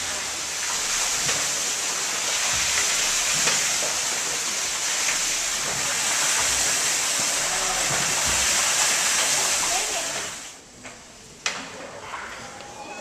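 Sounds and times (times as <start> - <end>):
steam hissing: 0.0 - 10.6.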